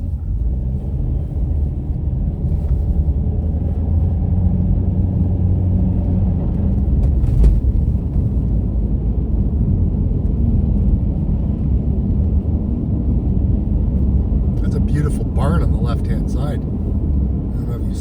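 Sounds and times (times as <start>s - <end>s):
car tyres and engine rumble: 0.0s - 18.0s.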